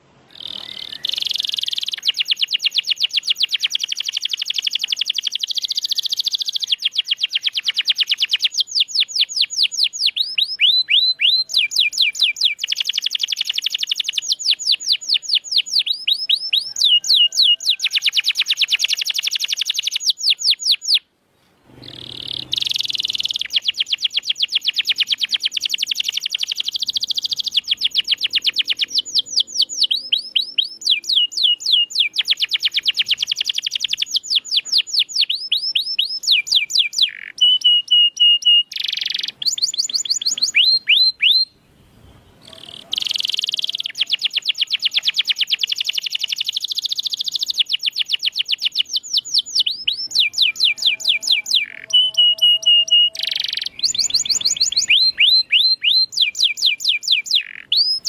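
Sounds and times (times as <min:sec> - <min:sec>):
canary singing trills: 0:00.3 - 0:21.1, 0:21.7 - 0:58.0.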